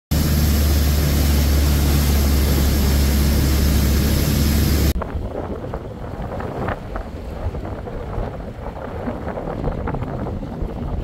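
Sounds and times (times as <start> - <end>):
motorboat engine running: 0.1 - 11.0
wind and water rushing: 0.1 - 11.0.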